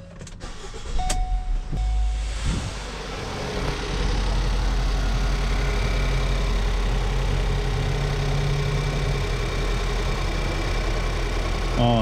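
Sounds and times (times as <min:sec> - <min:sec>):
van engine idling: 0:00.4 - 0:12.0.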